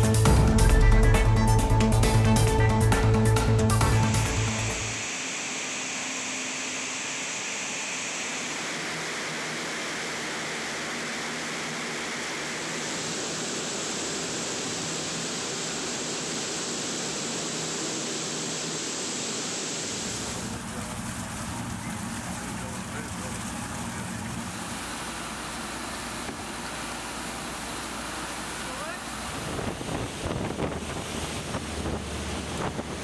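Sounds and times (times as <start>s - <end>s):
hovercraft turbines rushing: 0.0s - 33.0s.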